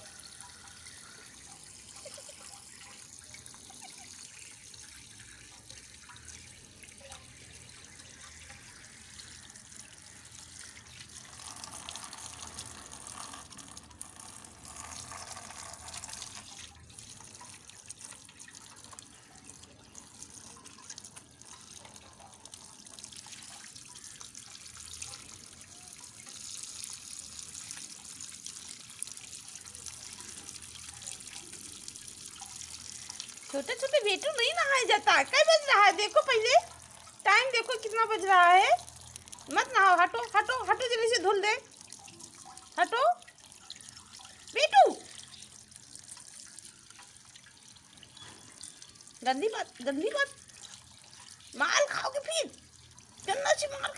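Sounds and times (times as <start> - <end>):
water spraying from a hose: 0.0 - 53.9.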